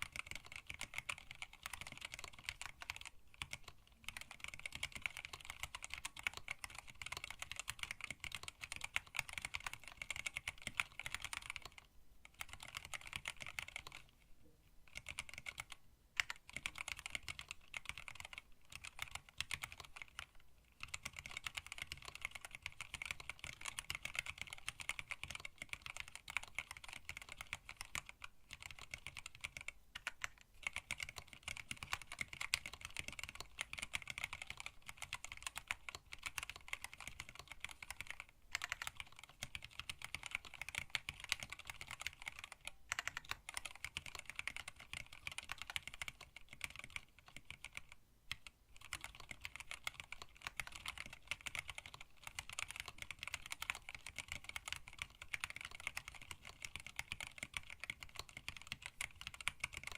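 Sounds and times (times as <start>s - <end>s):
fast typing on mechanical keyboard: 0.0s - 14.1s, 14.9s - 59.9s.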